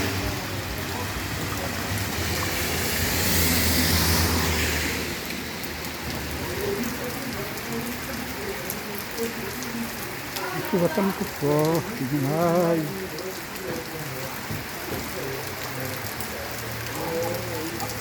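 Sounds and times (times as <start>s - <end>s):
heavy rain falling: 0.0s - 18.0s
vehicle passing on wet road: 0.0s - 18.0s.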